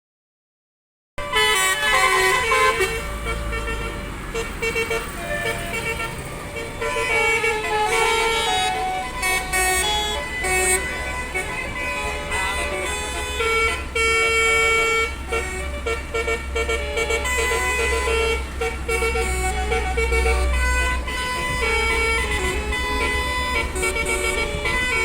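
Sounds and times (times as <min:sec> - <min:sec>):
multi-tone musical bus horn: 0:01.2 - 0:25.0.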